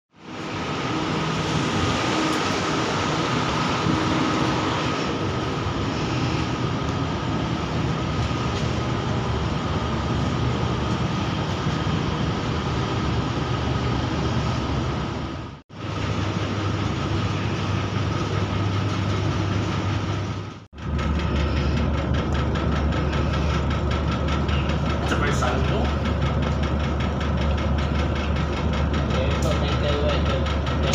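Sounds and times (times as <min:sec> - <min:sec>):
train rumbling on rails: 0:00.2 - 0:30.9.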